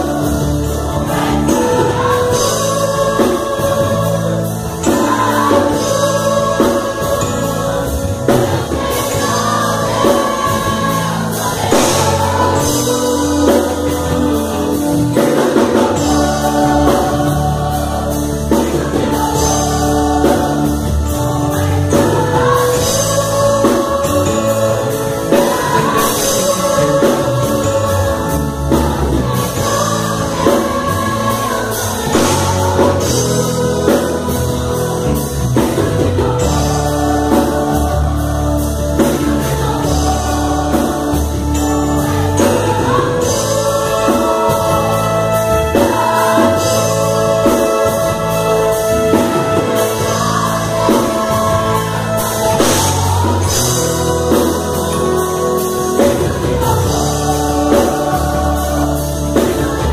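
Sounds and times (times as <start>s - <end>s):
gospel choir singing: 0.0s - 59.9s
live band playing: 0.0s - 59.9s.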